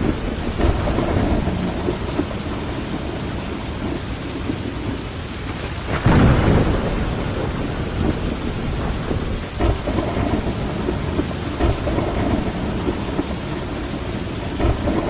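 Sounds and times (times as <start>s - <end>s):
rain against window glass: 0.0s - 15.0s.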